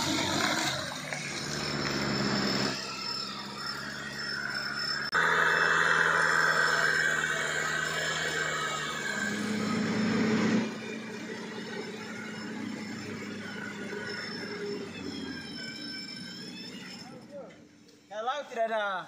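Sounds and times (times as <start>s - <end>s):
truck engine running hard: 0.0s - 17.0s.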